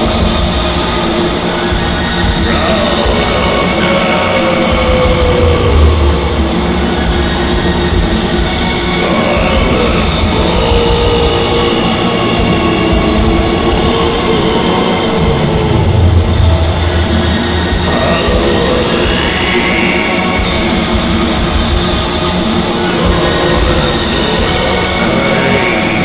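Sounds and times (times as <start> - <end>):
black metal guitars and drums: 0.0 - 26.0
gliding rising tone: 0.0 - 26.0.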